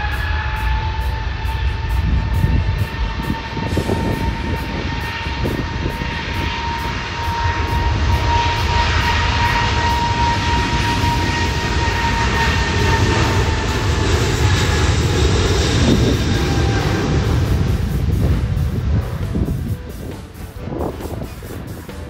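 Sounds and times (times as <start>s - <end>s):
jet engine roar: 0.0s - 22.0s
jet engines whining: 0.0s - 22.0s
wind buffeting microphone: 0.0s - 22.0s.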